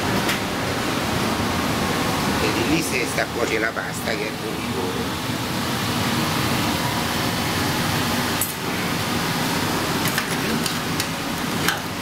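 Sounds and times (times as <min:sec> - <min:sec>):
pasta cooker boiling: 0:00.8 - 0:12.0.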